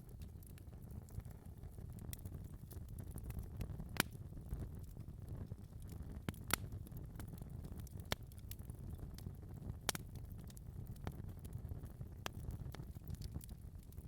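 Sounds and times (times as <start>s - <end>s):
low rumble of burning fire: 0.0s - 14.0s
wood fire popping: 0.0s - 14.0s.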